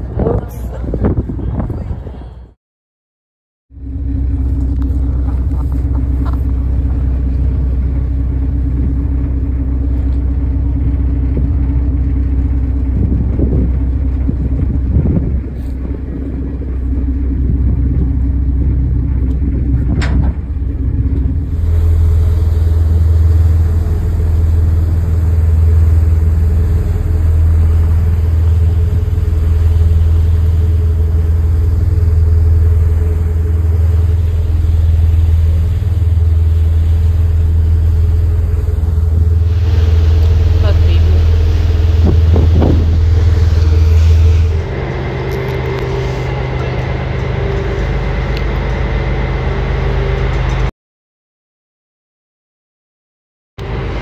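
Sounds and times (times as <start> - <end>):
boat engine droning: 0.0 - 2.6, 3.7 - 50.7, 53.6 - 54.0
wind rumble on microphone: 0.0 - 2.6, 3.7 - 50.7.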